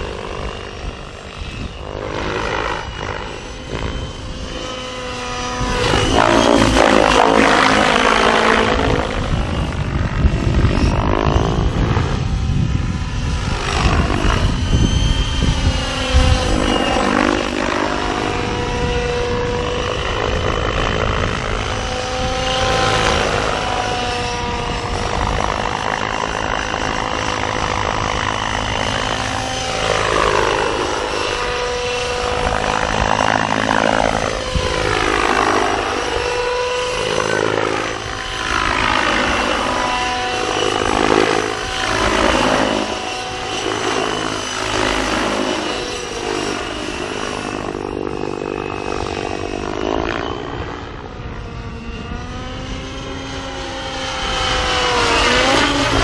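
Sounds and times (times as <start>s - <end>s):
model helicopter motor whine: 0.0s - 56.0s.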